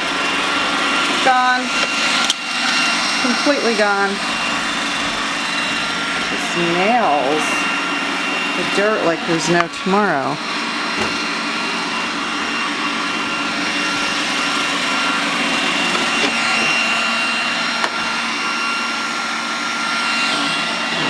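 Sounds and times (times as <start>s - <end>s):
robot vacuum motor whine: 0.0s - 21.0s.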